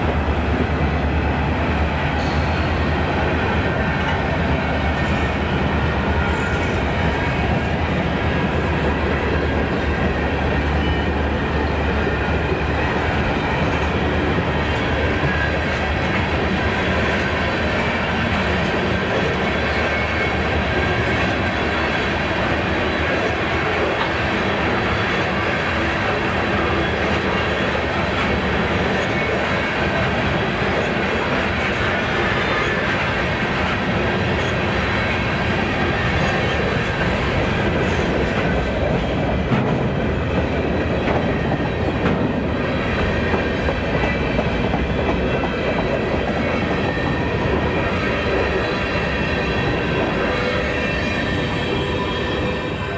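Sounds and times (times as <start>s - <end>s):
train wheels on rail: 0.0s - 52.9s.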